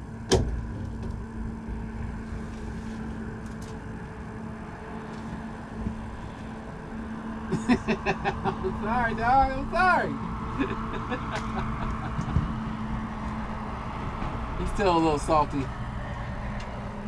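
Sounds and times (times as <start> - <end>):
boat motor humming: 0.0 - 17.0
low rumbling noise: 0.0 - 17.0.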